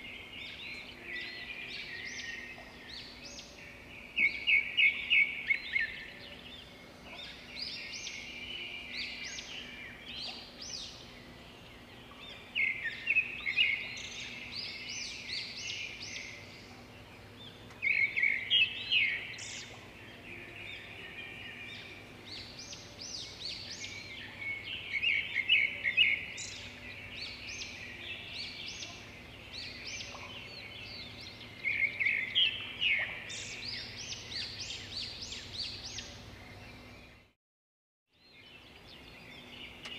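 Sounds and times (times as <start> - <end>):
birds chirping and singing: 0.0 - 37.3, 38.2 - 39.9.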